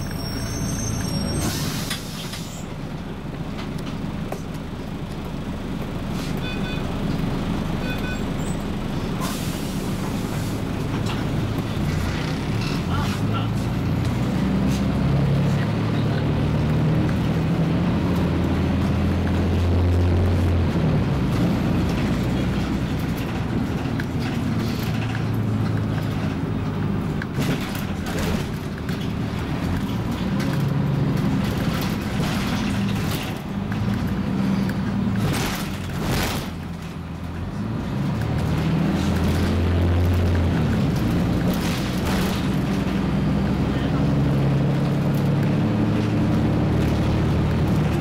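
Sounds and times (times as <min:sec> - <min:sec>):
bus engine droning: 0:00.0 - 0:48.0.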